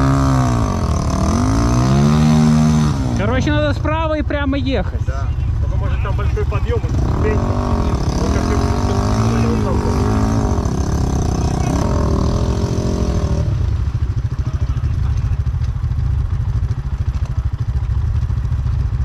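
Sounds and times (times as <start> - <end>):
dense low rumble: 0.0 - 19.0
motorcycle engine revving: 0.0 - 19.0.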